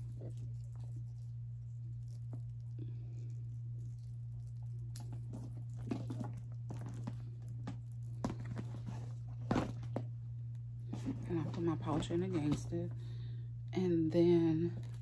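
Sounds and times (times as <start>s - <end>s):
items rustling and clicking: 0.0s - 13.2s
steady low hum: 0.0s - 15.0s.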